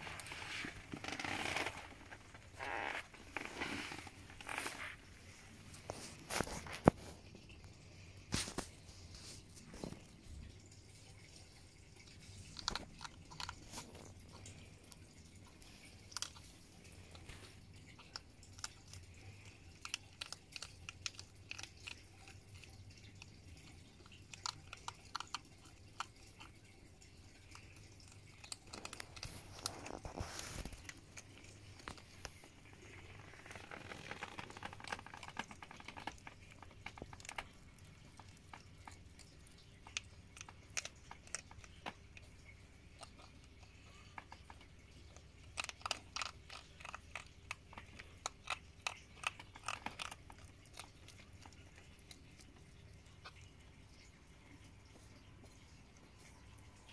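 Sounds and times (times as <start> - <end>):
hedgehogs chewing and crunching food: 0.0 - 56.9.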